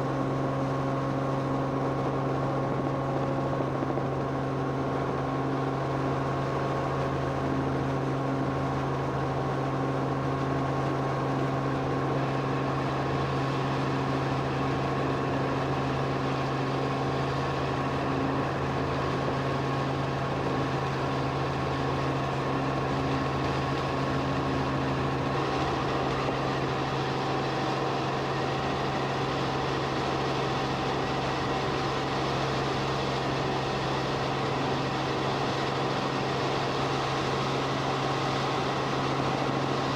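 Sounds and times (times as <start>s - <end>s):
aircraft engine drone in cabin: 0.0s - 39.9s.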